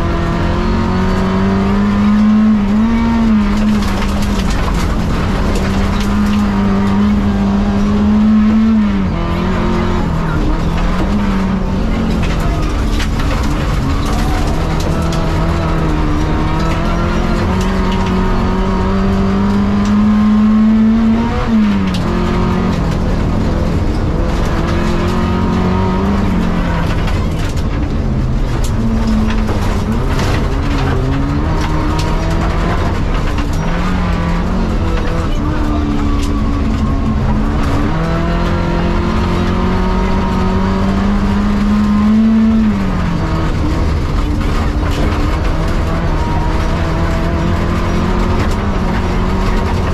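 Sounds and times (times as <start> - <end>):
clicks and knocks from rough road: 0.0 - 49.9
rally car engine revving: 0.0 - 49.9.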